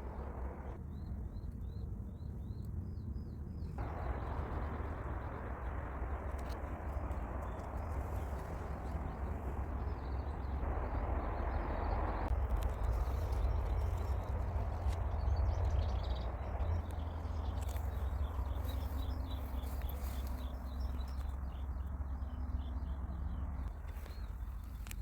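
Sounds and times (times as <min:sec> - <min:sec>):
small birds chirping faintly: 0:00.0 - 0:25.0
steady low rumble: 0:00.0 - 0:25.0.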